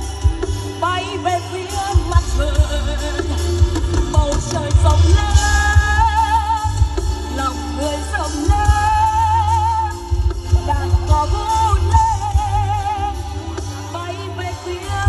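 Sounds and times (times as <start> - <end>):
song with vibrato melody and drums: 0.0 - 15.0.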